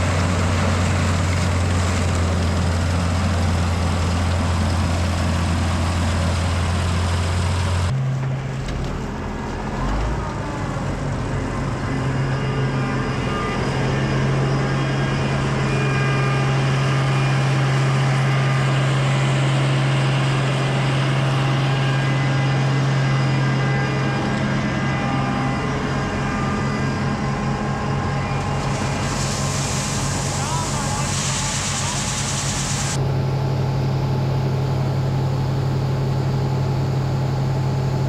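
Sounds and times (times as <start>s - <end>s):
farm machinery engine running: 0.0s - 38.0s.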